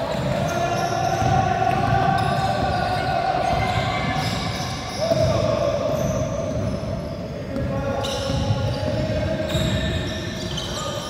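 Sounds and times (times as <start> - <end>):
shoes squeaking on court: 0.0 - 11.0
voices echoing: 0.0 - 11.0.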